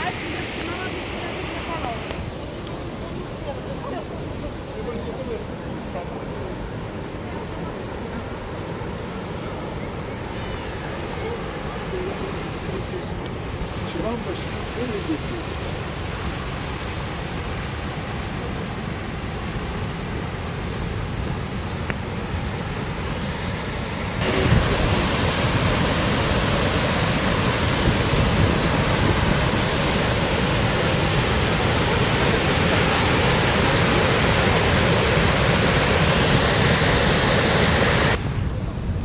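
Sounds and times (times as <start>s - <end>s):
waterfall rushing: 0.0s - 38.3s.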